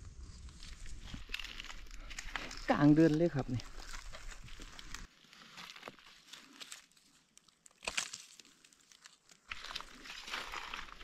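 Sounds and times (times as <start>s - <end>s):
dry leaves crackling and rustling: 0.3s - 11.0s.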